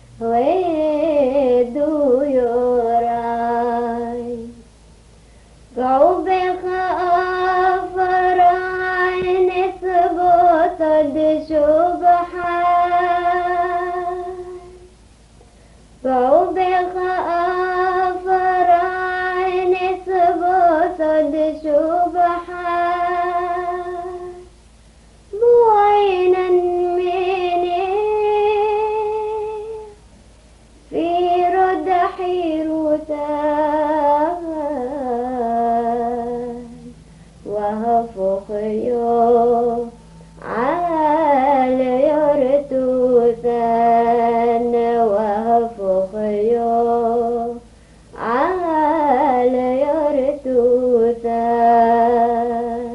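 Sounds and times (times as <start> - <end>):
woman singing slow melody: 0.0 - 4.7, 5.7 - 15.0, 16.0 - 24.6, 25.3 - 30.1, 30.8 - 52.9.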